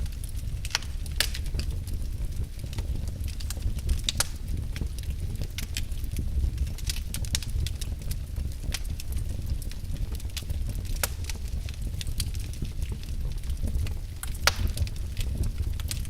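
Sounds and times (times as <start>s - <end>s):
logs crackling and popping: 0.0s - 16.0s
low rumble of fire: 0.0s - 16.0s.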